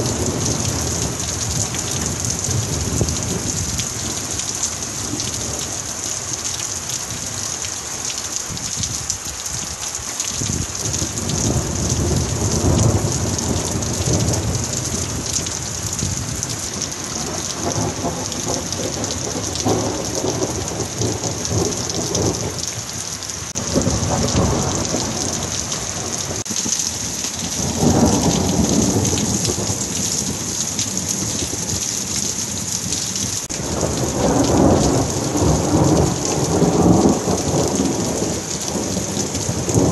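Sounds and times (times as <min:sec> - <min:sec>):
rolling thunder rumbles: 0:00.0 - 0:06.6, 0:10.3 - 0:22.8, 0:23.5 - 0:39.9
heavy rain hissing: 0:00.0 - 0:39.9.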